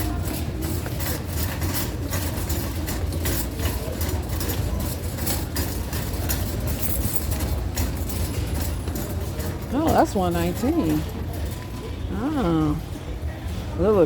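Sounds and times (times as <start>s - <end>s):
shopping cart rattling: 0.0s - 14.0s
shopping cart wheels rumbling: 0.0s - 14.0s.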